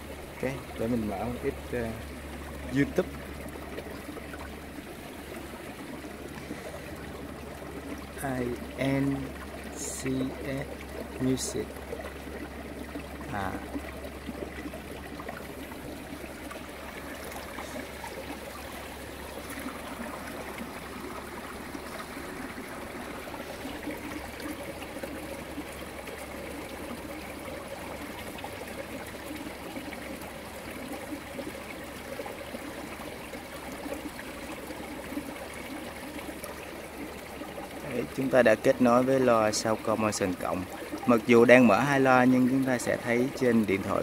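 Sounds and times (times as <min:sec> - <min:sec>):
stream flowing and trickling: 0:00.0 - 0:44.0.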